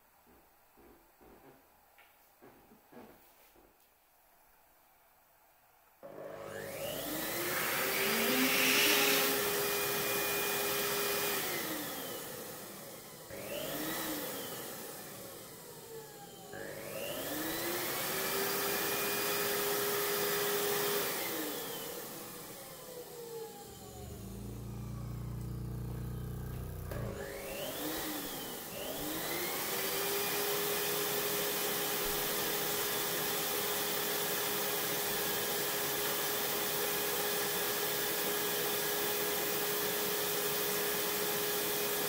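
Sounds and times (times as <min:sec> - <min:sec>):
electric pump motor whine: 0:06.0 - 0:42.0.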